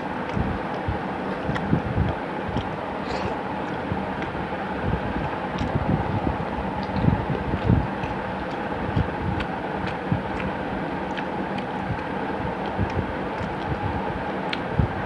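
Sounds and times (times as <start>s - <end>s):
chewing food: 0.0s - 15.0s
steady hum and hiss: 0.0s - 15.0s
wet mouth clicks: 0.2s - 14.7s.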